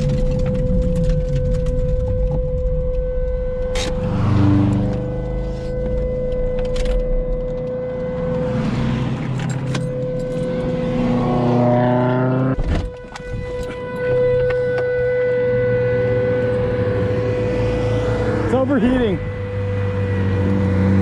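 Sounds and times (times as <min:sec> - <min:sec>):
road and wind noise: 0:00.0 - 0:21.0
steady high tone: 0:02.5 - 0:20.8
car engine revving: 0:03.3 - 0:21.0.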